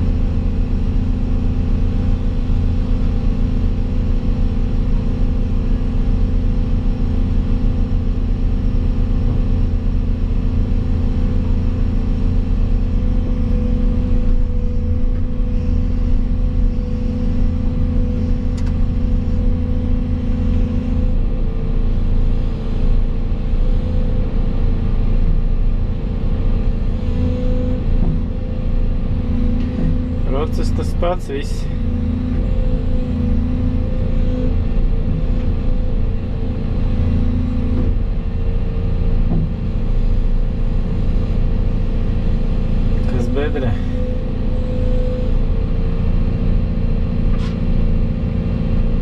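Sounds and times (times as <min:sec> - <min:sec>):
diesel excavator engine running: 0:00.0 - 0:49.0.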